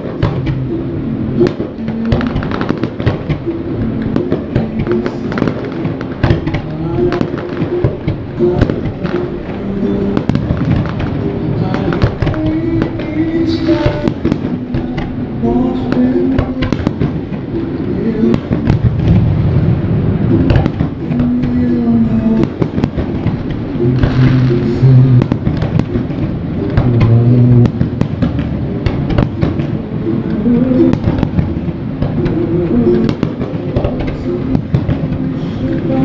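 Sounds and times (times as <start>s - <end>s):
fireworks bangs and crackles: 0.0s - 36.0s
music with held low notes: 0.0s - 36.0s.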